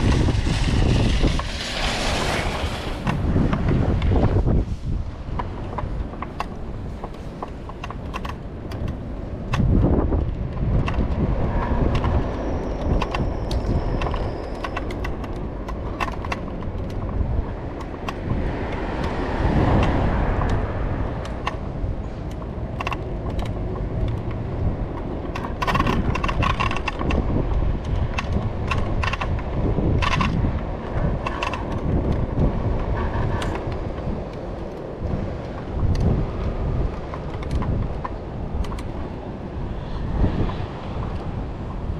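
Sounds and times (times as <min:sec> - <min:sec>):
scooter rattling over bumps: 0:00.0 - 0:41.9
scooter wheels rolling on asphalt: 0:00.0 - 0:41.9
wind buffeting microphone: 0:00.0 - 0:41.9.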